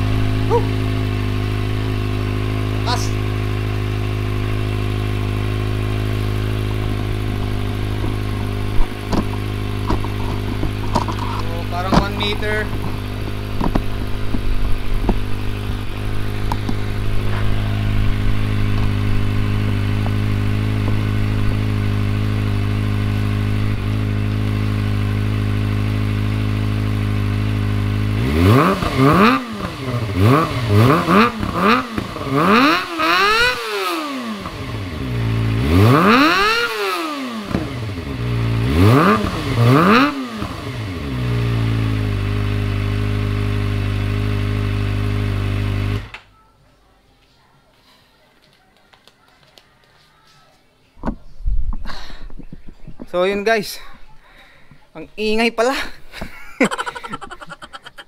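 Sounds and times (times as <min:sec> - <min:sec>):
motorcycle engine idling and revving: 0:00.0 - 0:46.3, 0:52.4 - 0:58.0.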